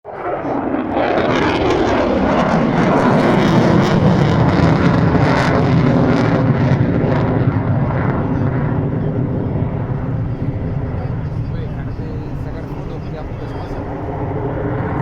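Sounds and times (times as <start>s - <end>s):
jet roar passing overhead: 0.0s - 15.0s.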